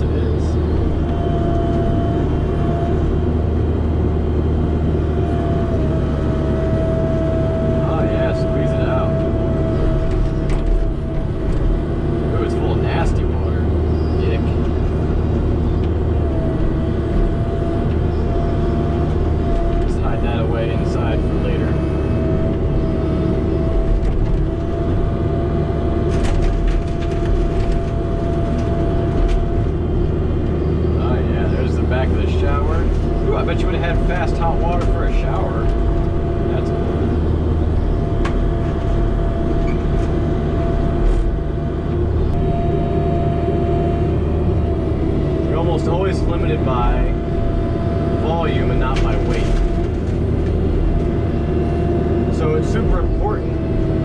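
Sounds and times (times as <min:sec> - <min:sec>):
constant whine: 0:00.0 - 0:54.0
demolition machine engine running: 0:00.0 - 0:54.0.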